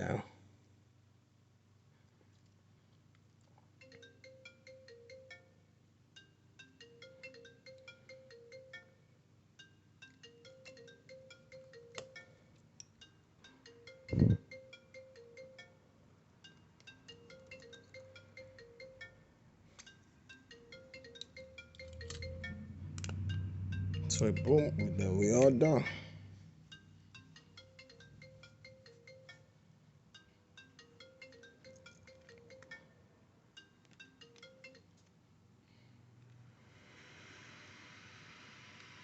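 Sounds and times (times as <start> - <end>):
chiming ringtone melody: 3.8 - 35.0.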